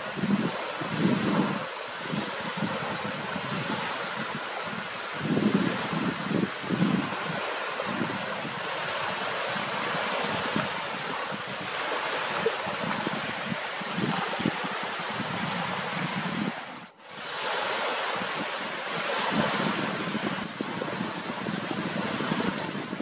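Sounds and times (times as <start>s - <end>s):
small waves lapping: 0.0s - 23.0s
wind buffeting microphone: 0.0s - 23.0s.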